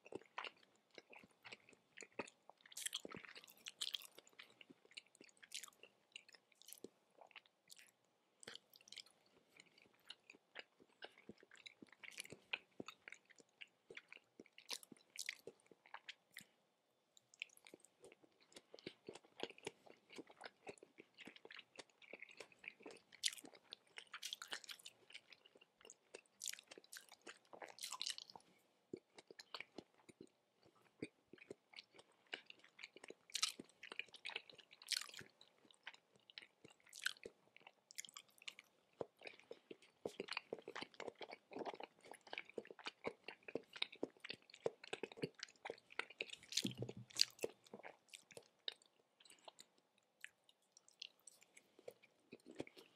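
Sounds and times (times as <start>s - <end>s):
chewing mouth clicks and smacks: 0.0s - 16.6s, 17.2s - 52.9s.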